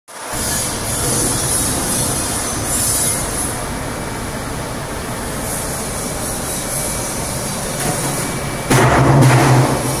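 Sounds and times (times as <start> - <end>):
bottle crusher and conveyor running: 0.2 - 10.0.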